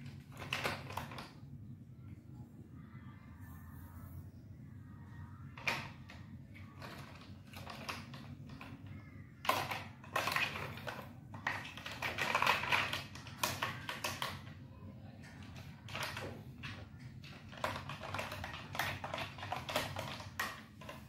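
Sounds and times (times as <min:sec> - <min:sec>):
plastic toy truck rattling on tiles: 0:00.0 - 0:01.4, 0:05.5 - 0:21.0.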